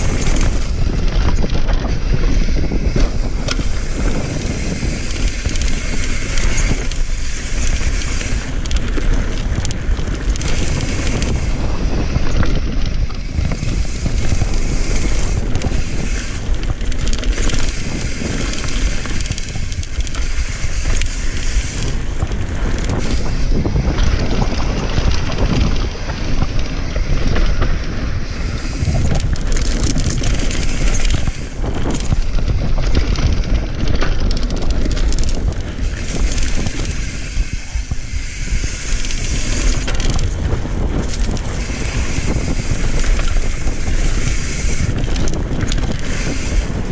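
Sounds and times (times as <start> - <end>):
bike knocking and rattling: 0.0 - 46.9
bike tyres rumbling on dirt trail: 0.0 - 46.9
wind buffeting microphone: 0.0 - 46.9.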